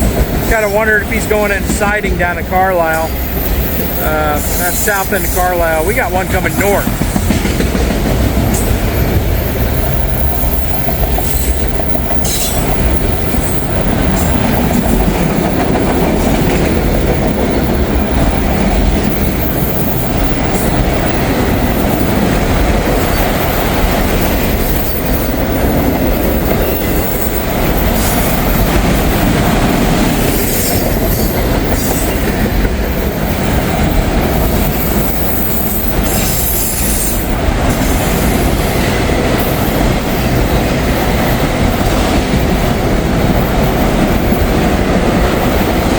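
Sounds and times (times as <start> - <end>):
freight train cars rolling: 0.0 - 45.9
steel wheels clacking over rail joints: 0.0 - 45.9.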